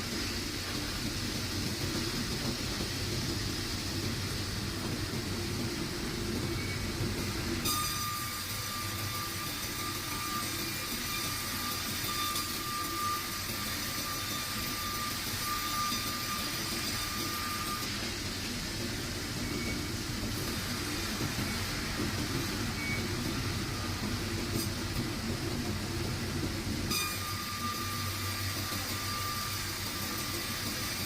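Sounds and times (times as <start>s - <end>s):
sawmill machinery running: 0.0s - 31.0s.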